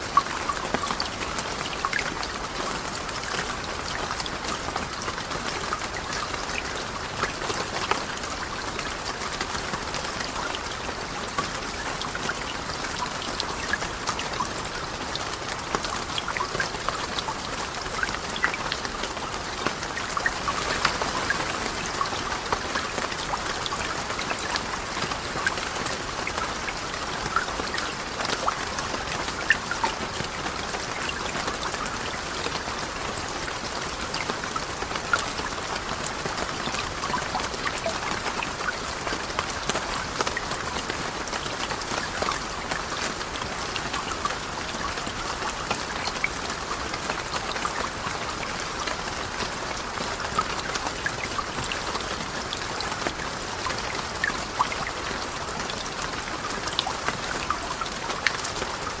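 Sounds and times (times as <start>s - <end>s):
raindrops ticking: 0.0s - 59.0s.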